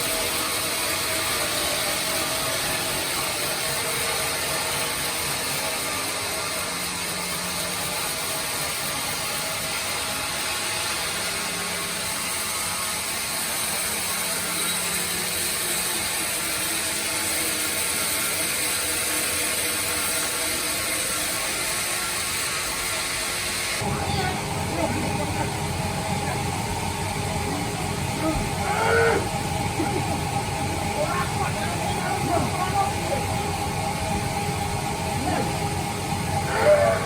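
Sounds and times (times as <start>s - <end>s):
bandsaw sawing wood: 0.0s - 37.0s.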